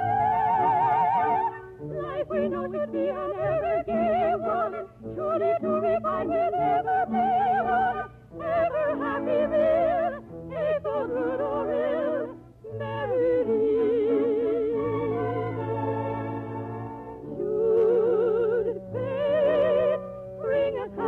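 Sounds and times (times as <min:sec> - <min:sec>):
operatic singing with vibrato: 0:00.0 - 0:21.0.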